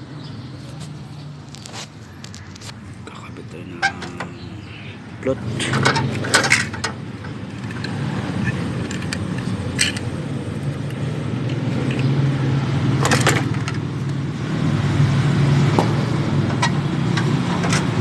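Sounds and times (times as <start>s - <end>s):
low engine hum: 2.8s - 18.0s.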